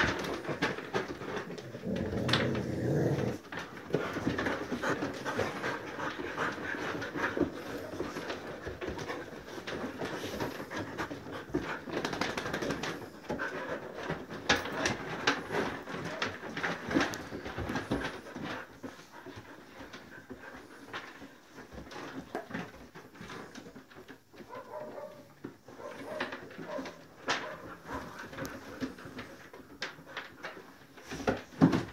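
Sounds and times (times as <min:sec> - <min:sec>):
dogs panting: 0:00.0 - 0:31.9
paws clicking on wooden boards: 0:00.0 - 0:31.9.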